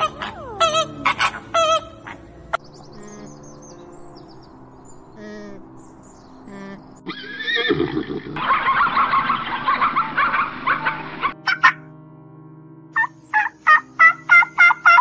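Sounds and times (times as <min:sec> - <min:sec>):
soft background music: 0:00.0 - 0:08.0, 0:08.6 - 0:15.0.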